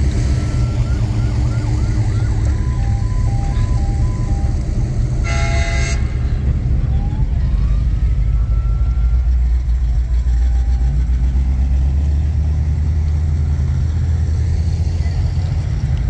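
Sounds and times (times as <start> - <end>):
car engines low rumble: 0.0 - 16.0.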